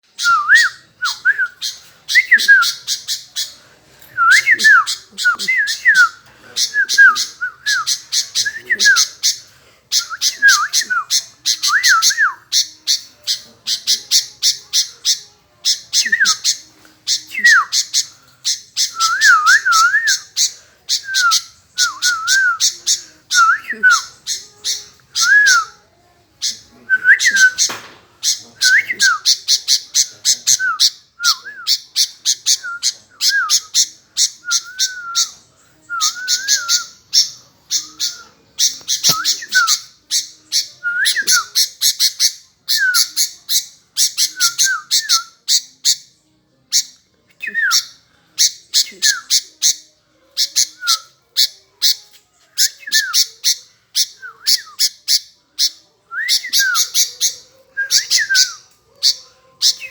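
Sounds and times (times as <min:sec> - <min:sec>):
bird chattering and whistling: 0:00.2 - 0:03.6, 0:04.2 - 0:25.8, 0:26.4 - 0:46.0, 0:50.4 - 0:59.9.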